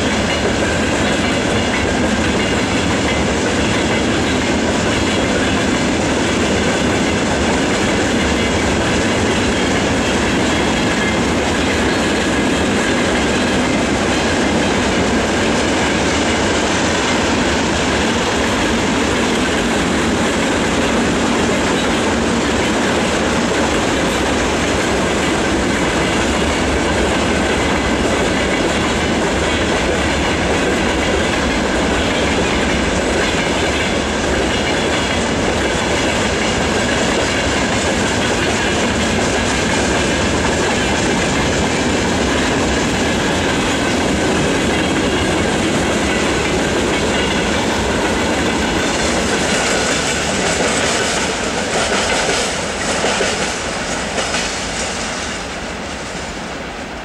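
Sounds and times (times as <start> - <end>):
wheels clacking over rail joints: 0.0 - 55.4.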